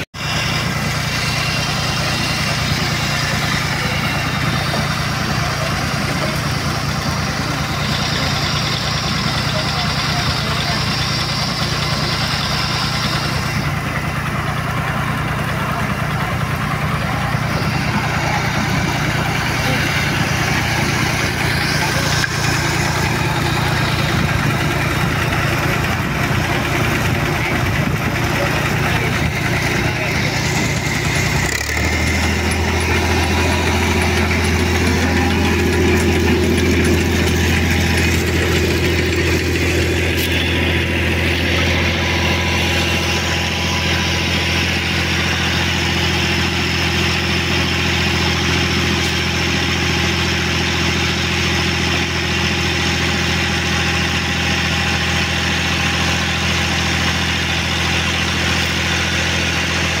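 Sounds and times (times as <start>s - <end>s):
tractor engine running: 0.0s - 60.0s.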